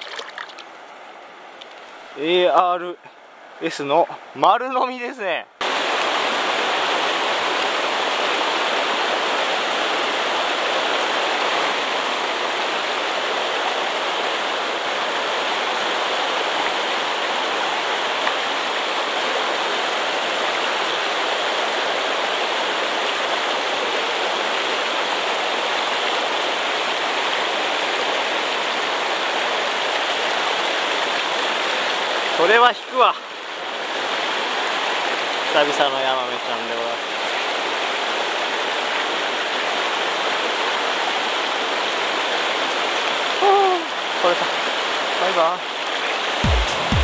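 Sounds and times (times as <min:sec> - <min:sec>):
stream rushing over rocks: 0:00.0 - 0:03.0, 0:03.6 - 0:47.0.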